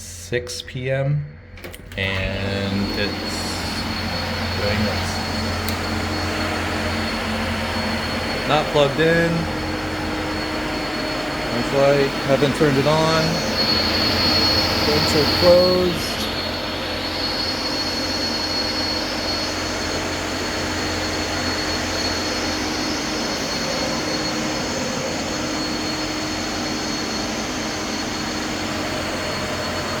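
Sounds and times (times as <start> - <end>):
thin high whine: 0.0 - 30.0
cooling fan whooshing: 1.6 - 30.0.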